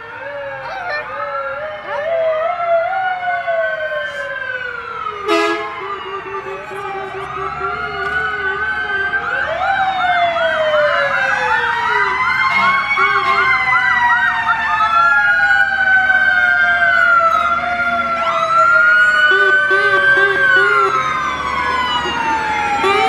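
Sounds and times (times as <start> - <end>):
emergency sirens wailing: 0.0 - 23.0
fast siren yelp: 0.0 - 23.0.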